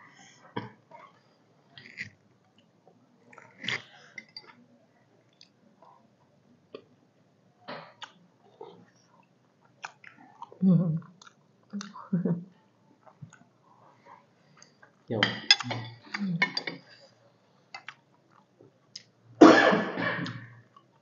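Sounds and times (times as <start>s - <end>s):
people chewing and smacking: 0.5s - 6.9s, 7.7s - 19.2s.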